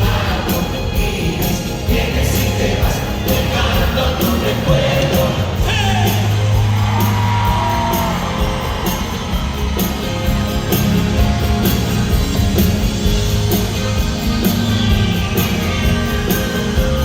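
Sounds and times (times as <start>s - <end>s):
pop-rock band music: 0.0s - 17.0s.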